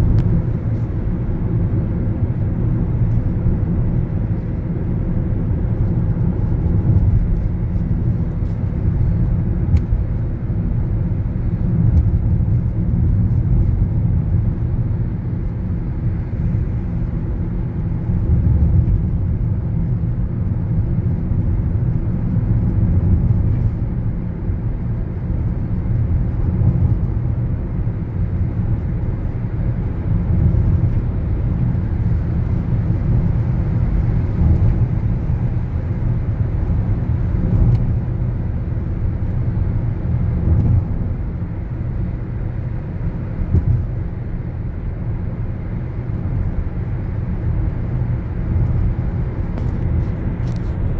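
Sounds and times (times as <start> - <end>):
road and engine rumble in car: 0.0 - 50.9.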